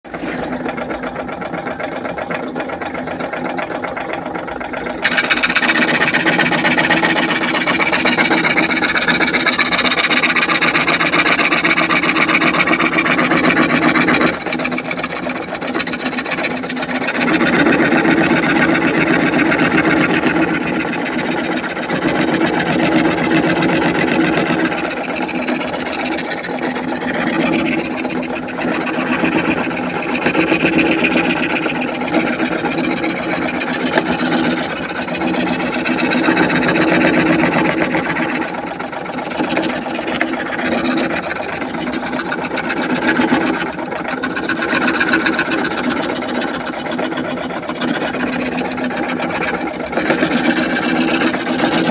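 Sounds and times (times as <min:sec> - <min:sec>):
power saw cutting wood: 0:00.1 - 0:51.9.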